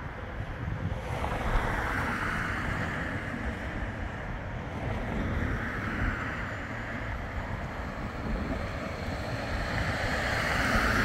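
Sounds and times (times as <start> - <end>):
tram running quietly: 0.0 - 11.0
wind buffeting microphone: 0.0 - 11.0.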